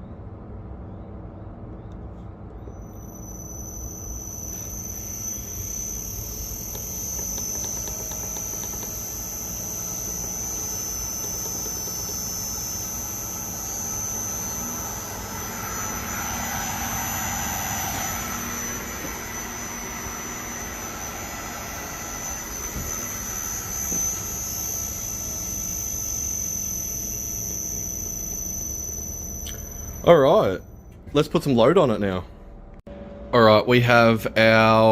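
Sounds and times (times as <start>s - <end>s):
high-pitched drive whine: 2.4s - 34.9s
grinder motor low hum: 2.8s - 31.1s.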